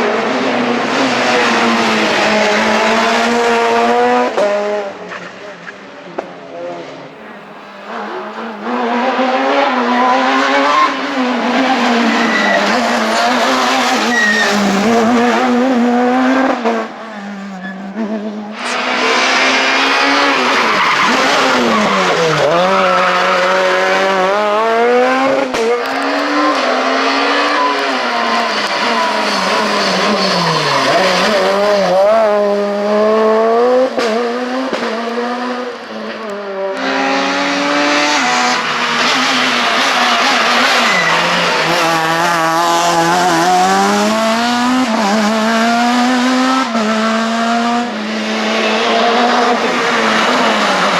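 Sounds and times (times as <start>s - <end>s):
car at full throttle: 0.0s - 50.9s
rally car engine at high revs: 0.0s - 50.9s.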